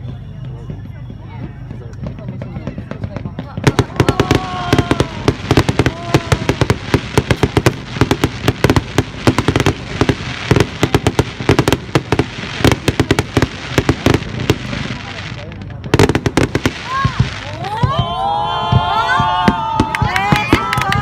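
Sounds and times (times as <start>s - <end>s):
fireworks bangs and crackles: 0.0s - 21.0s
fireworks falling whistles: 0.0s - 21.0s.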